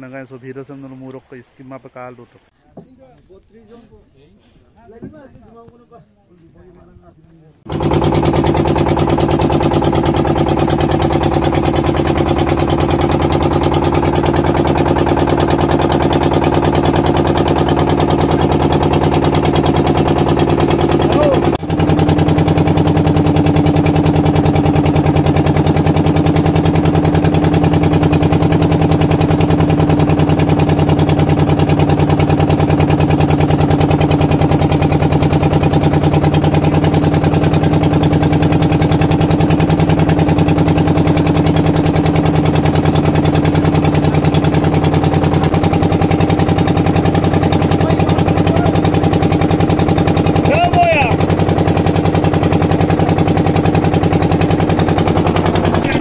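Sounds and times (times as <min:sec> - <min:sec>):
motorboat engine running: 0:07.6 - 0:56.0.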